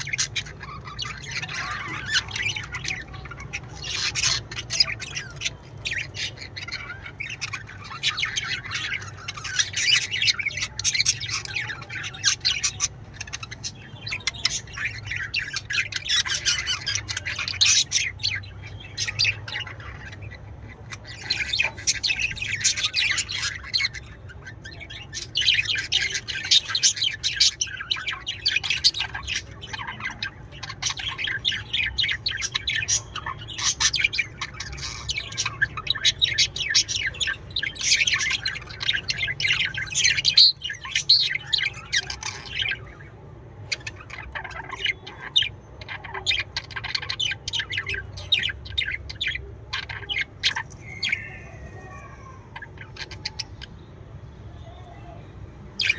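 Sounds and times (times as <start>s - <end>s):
budgerigars chirping and warbling: 0.0s - 55.9s.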